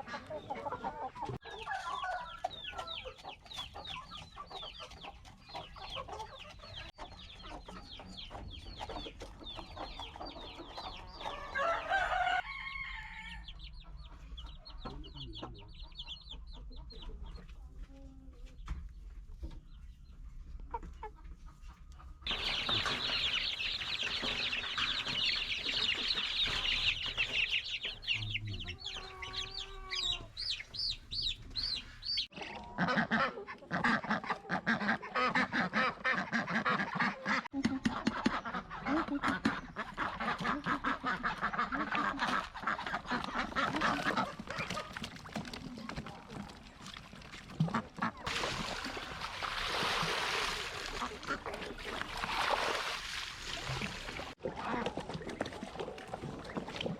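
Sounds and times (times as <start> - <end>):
chickens clucking and chirping: 0.0 - 49.8.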